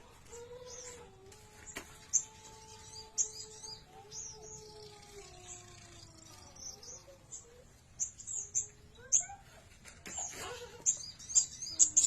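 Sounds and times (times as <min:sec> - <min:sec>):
young bird chirping: 0:01.7 - 0:12.0.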